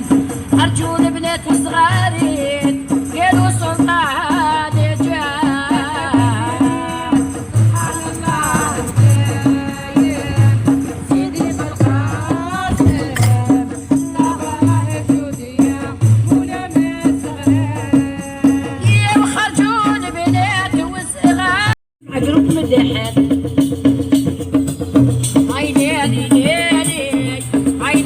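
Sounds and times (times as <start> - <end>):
rattle hand percussion: 0.0 - 28.0
steady drum beat: 0.0 - 28.0.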